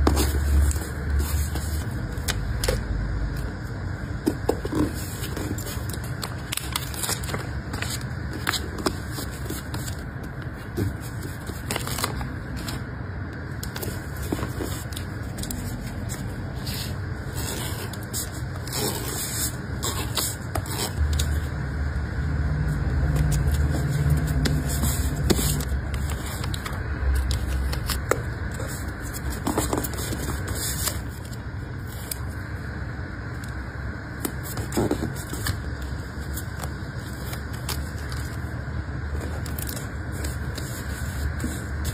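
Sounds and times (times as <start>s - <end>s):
paper and plastic rustling: 0.0s - 3.6s, 4.2s - 12.9s, 13.5s - 21.5s, 23.1s - 32.4s, 34.2s - 41.9s
steady low rumble: 0.0s - 41.9s.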